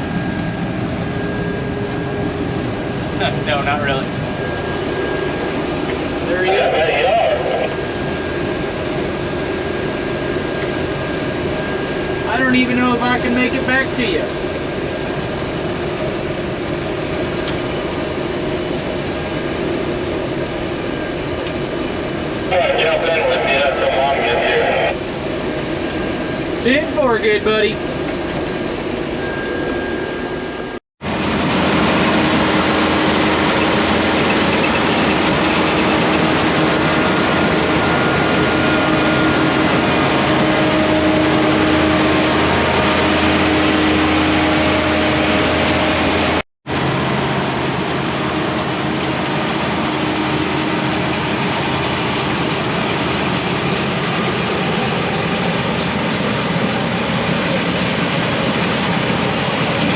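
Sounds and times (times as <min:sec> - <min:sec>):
combine harvester running: 0:00.0 - 0:59.9
machine whines: 0:00.0 - 0:59.9.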